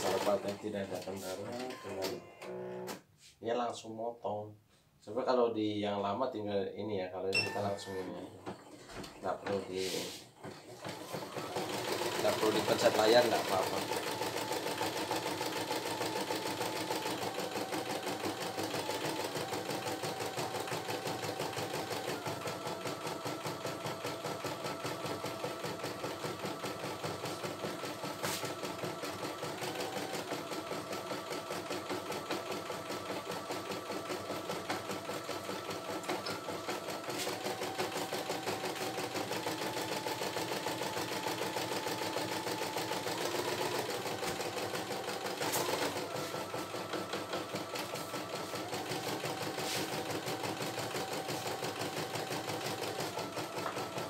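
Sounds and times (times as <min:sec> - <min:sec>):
embroidery machine needle stitching: 0:00.0 - 0:03.0, 0:10.6 - 0:54.0.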